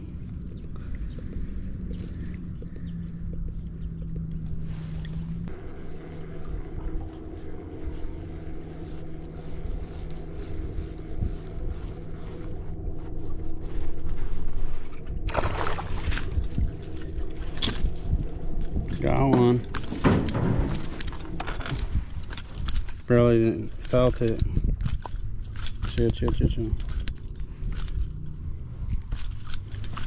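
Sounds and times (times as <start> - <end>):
faint hum: 0.0 - 30.0
low rumble: 0.0 - 30.0.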